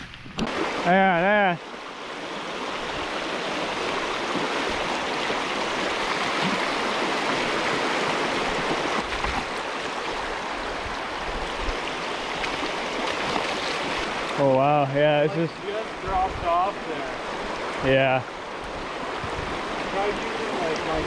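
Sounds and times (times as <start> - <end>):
river rushing over stones: 0.5 - 21.0.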